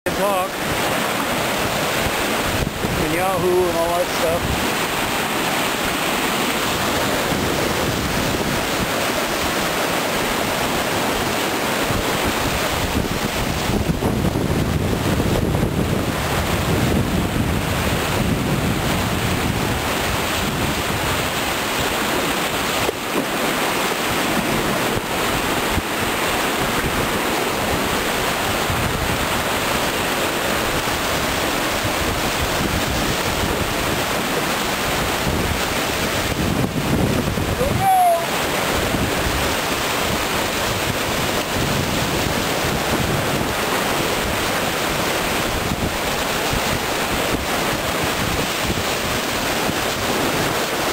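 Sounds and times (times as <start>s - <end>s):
whitewater rapids rushing: 0.1s - 50.9s
wind on microphone: 0.1s - 50.9s.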